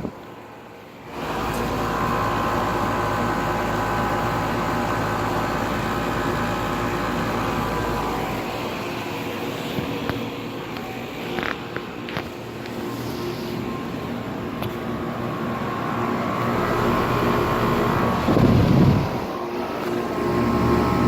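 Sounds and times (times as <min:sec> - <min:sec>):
air conditioner unit humming: 0:00.0 - 0:21.0.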